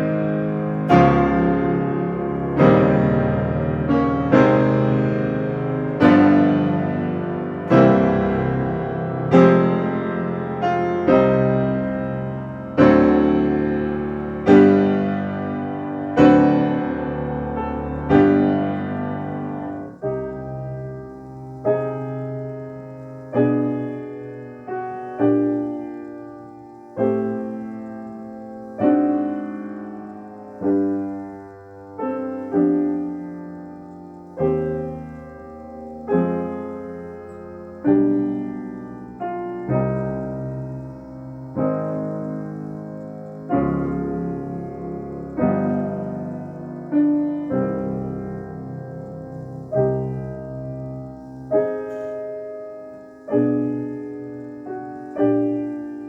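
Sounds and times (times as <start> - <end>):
piano chords ringing: 0.0 - 56.0.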